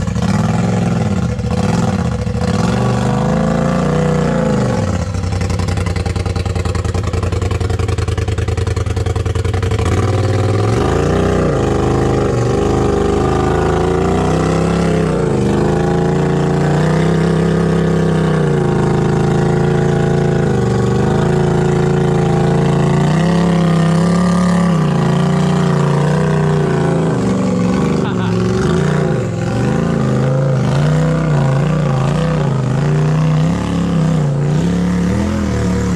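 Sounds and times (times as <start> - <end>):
buggy engine revving: 0.0 - 35.9.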